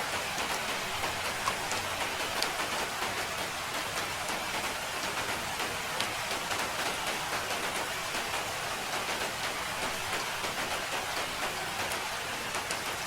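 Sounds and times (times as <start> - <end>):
raindrops ticking on surface: 0.0 - 13.0
steady rain falling: 0.0 - 13.0.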